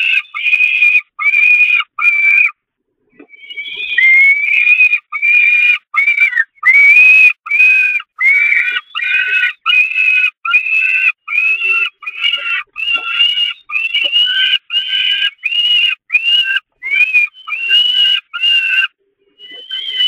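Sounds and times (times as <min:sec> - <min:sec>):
falcon chicks wailing calls: 0:00.0 - 0:02.6, 0:03.3 - 0:20.0.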